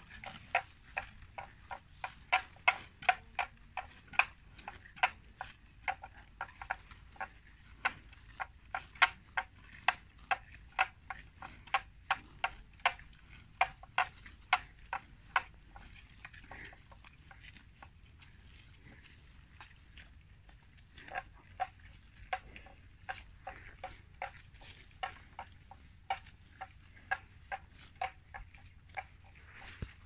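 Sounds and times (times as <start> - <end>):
water buffalo grazing: 0.0 - 30.0.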